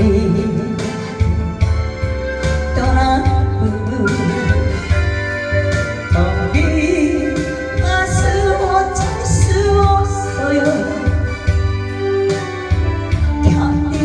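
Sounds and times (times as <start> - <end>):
backing track with bass beat: 0.0 - 14.0
woman singing a ballad: 0.0 - 14.0.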